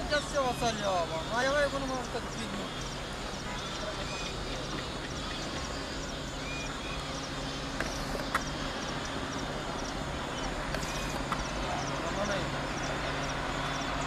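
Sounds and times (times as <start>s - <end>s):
birds chirping: 0.0s - 14.0s
low steady hum: 0.0s - 14.0s.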